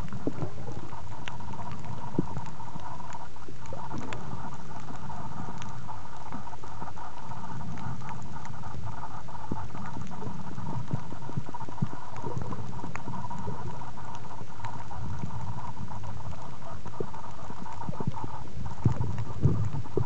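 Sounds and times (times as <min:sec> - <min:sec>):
muffled underwater rumble: 0:00.0 - 0:20.0
small clicks and crackles: 0:00.0 - 0:20.0.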